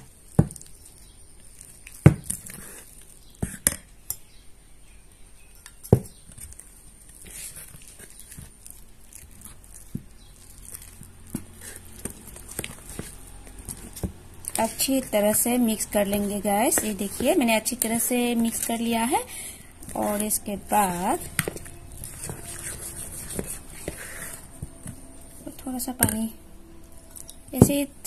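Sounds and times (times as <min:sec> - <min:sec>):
spoon stirring thick batter: 0:00.0 - 0:04.5, 0:05.1 - 0:28.0.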